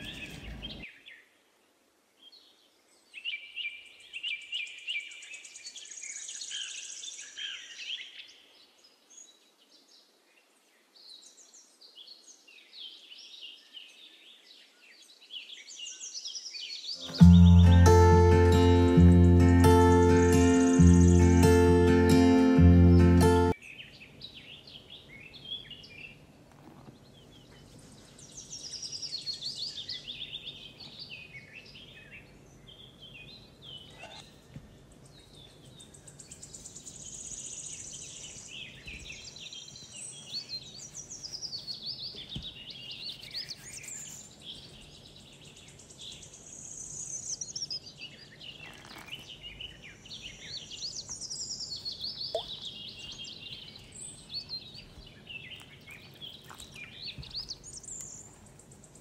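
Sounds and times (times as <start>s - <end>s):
songbirds chirping and trilling: 0.0s - 1.3s, 2.2s - 59.0s.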